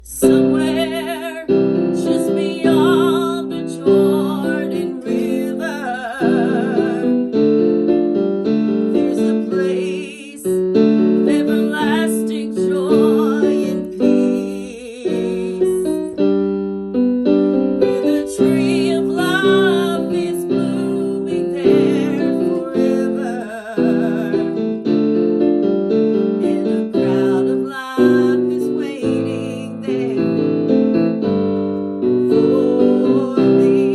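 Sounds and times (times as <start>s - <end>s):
piano chords ringing: 0.0s - 33.9s.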